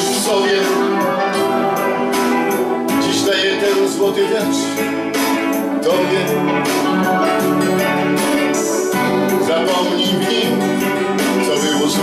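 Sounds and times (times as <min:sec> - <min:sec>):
acoustic guitar strumming: 0:00.0 - 0:12.0
sustained keyboard chords: 0:00.0 - 0:12.0.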